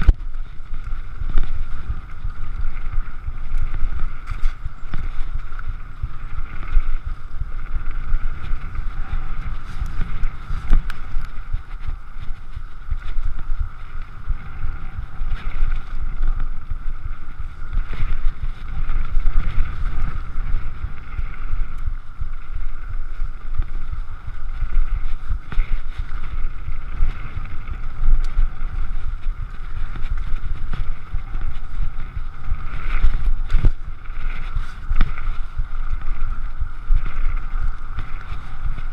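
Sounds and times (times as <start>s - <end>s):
bike tyre noise on gravel: 0.0s - 38.9s
wind buffeting microphone: 0.0s - 38.9s.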